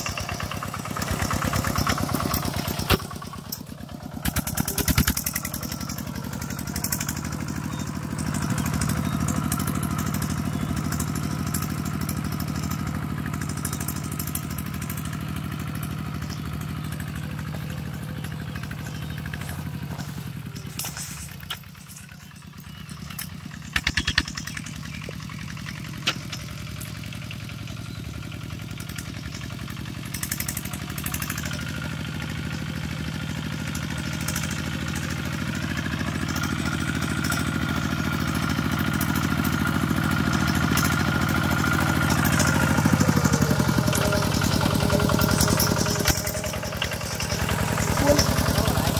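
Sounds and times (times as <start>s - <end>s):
diesel engine chugging: 0.0s - 48.9s.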